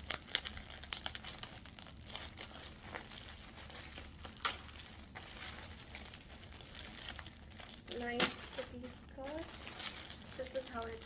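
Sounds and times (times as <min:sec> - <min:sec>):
packaging rustling and crackling: 0:00.0 - 0:11.0.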